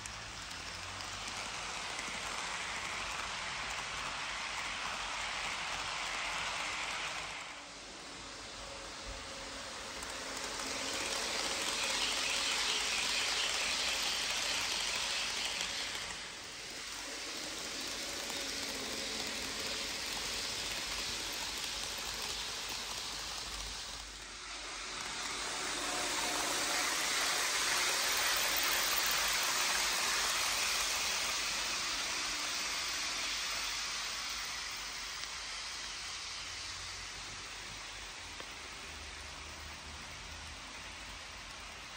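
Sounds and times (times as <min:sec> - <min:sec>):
model train wheels on rail: 0:00.0 - 0:41.9.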